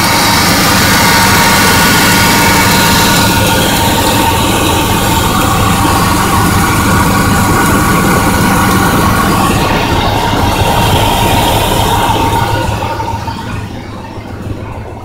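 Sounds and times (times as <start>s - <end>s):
exhaust leak ticking: 0.0s - 15.0s
pickup engine idling: 0.0s - 15.0s.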